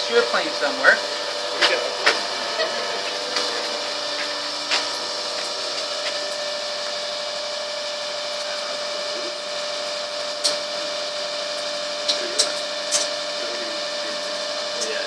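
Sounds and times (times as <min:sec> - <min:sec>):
testing machine humming and whining: 0:00.0 - 0:15.0.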